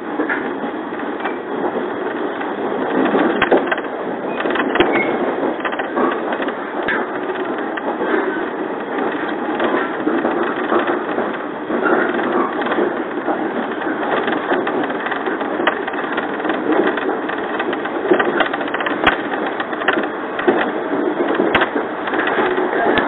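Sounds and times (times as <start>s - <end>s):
train car rumble and rattle: 0.0s - 23.0s.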